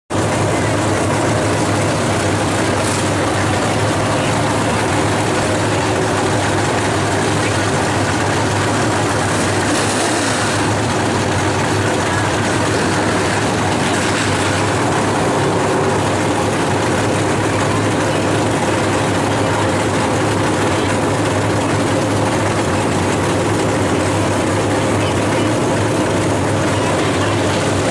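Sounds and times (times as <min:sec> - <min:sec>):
race car engines: 0:00.1 - 0:27.9.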